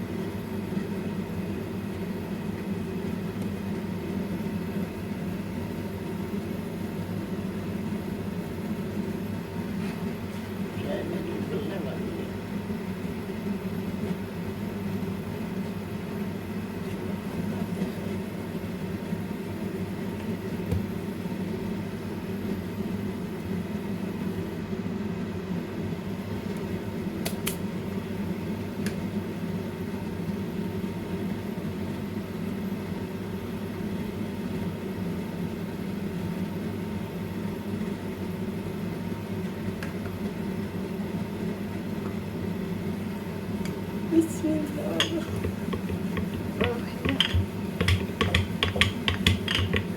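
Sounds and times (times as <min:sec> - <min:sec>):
fan motor humming: 0:00.0 - 0:49.9.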